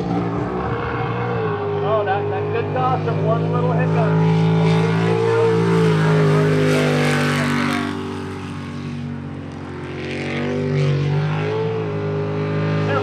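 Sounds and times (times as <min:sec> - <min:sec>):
jet boat engine running hard: 0:00.0 - 0:13.0.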